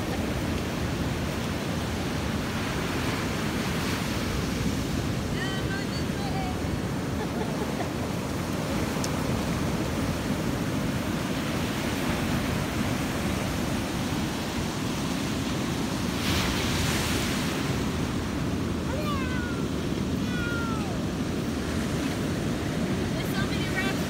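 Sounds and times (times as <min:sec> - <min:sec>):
surf rushing: 0:00.0 - 0:24.0
wind: 0:00.0 - 0:24.0.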